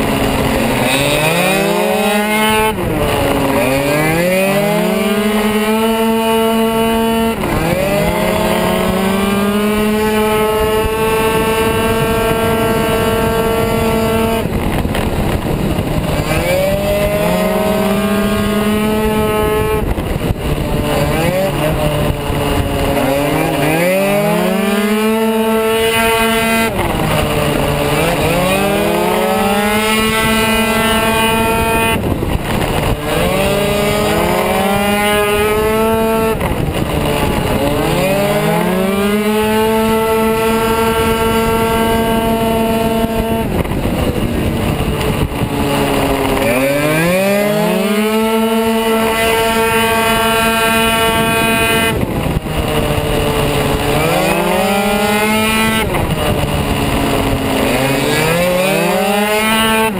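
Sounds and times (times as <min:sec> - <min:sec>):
two-stroke scooter engine revving: 0:00.0 - 0:59.9.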